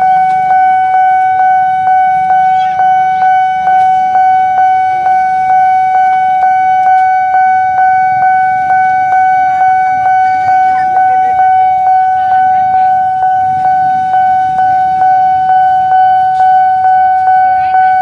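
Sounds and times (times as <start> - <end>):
level crossing warning bell ringing: 0.0 - 18.0.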